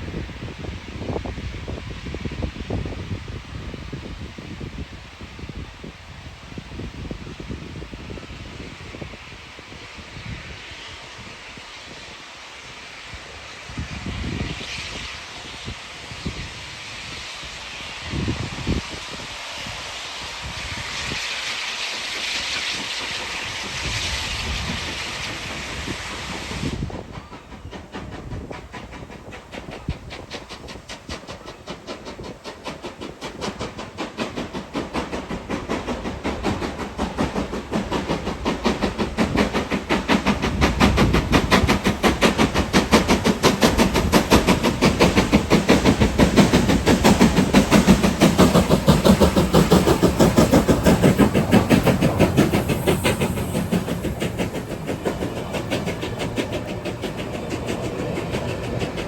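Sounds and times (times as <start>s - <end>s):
steam locomotive chuffing: 0.0s - 59.0s.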